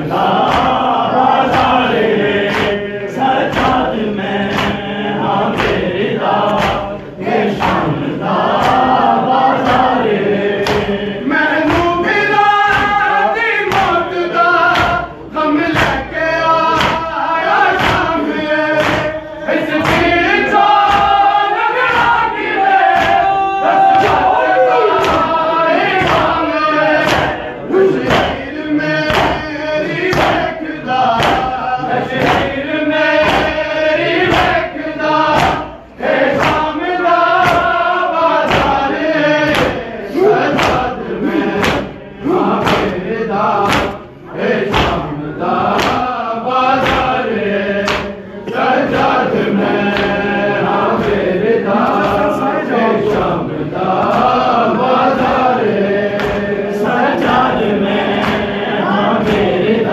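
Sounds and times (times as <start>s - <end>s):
men chanting in unison: 0.0s - 59.9s
hands slapping chests: 0.2s - 11.0s, 11.6s - 13.1s, 13.7s - 15.1s, 15.7s - 52.4s, 54.0s - 59.6s.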